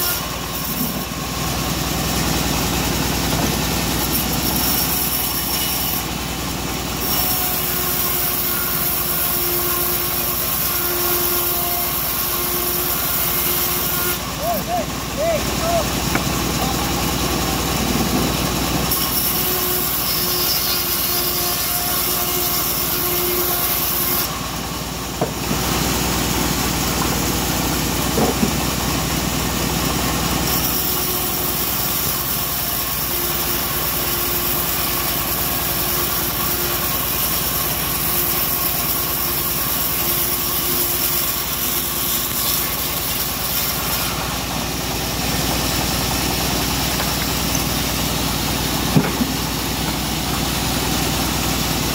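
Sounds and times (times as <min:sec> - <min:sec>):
bandsaw cutting wood: 0:00.0 - 0:51.9.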